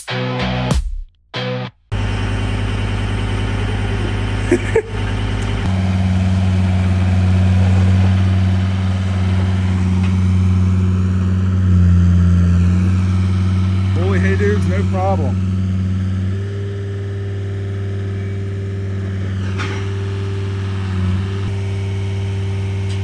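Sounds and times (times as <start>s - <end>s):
truck engine idling: 1.9s - 23.0s.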